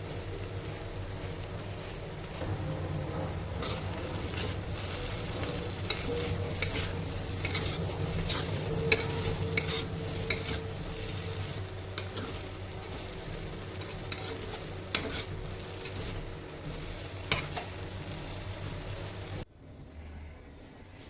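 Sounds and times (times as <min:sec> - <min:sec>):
food sizzling: 0:00.0 - 0:19.4
spatula scraping a pan: 0:00.0 - 0:19.4.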